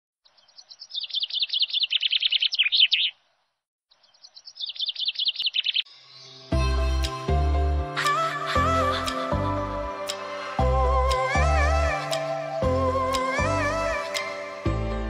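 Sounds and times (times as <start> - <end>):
songbird chirping: 0.2 - 15.0.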